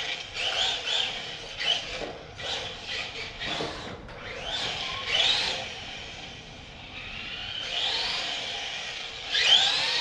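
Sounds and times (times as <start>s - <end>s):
toy car electric motor whining: 0.0s - 10.0s.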